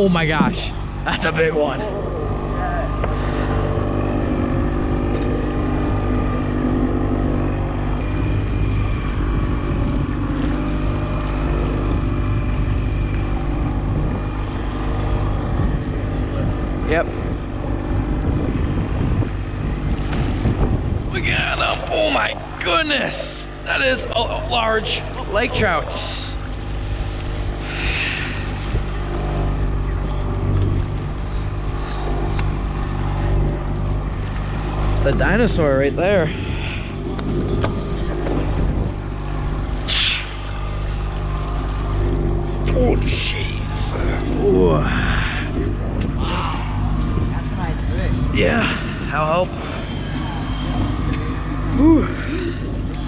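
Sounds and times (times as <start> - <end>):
boat motor droning: 0.0 - 53.0.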